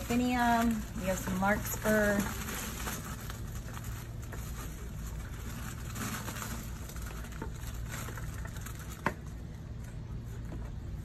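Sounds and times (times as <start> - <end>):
rustling of greens: 0.0 - 11.0.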